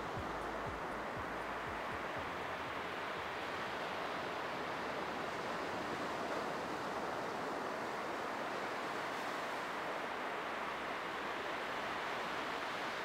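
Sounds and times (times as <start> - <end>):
small waves hissing on shore: 0.0 - 13.0.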